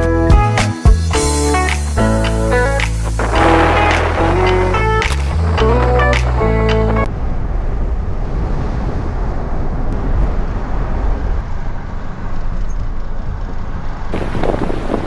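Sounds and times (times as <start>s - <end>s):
gusty wind buffeting microphone: 2.5s - 15.0s.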